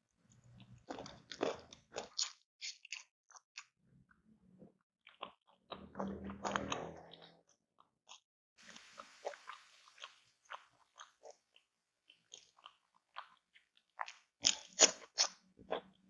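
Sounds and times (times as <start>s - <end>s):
crunchy chewing: 0.3s - 3.7s, 5.0s - 7.3s, 8.1s - 16.0s.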